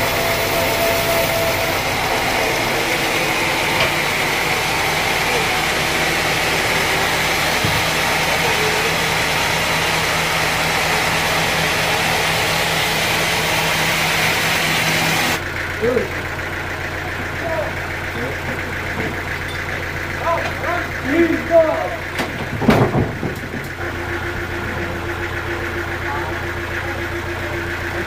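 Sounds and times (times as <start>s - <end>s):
sawmill machinery running: 0.0s - 28.0s.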